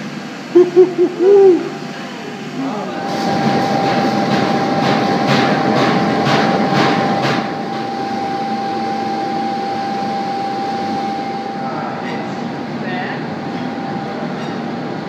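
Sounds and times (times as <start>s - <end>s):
gas burner roaring: 0.0s - 15.0s
high whine: 0.0s - 15.0s.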